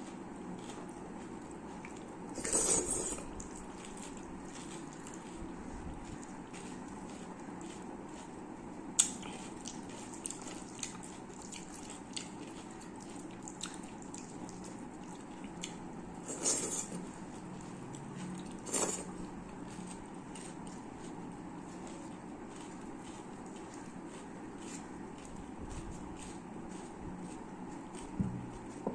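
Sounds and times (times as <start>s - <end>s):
wet food squishing: 0.0s - 8.4s, 9.0s - 28.9s.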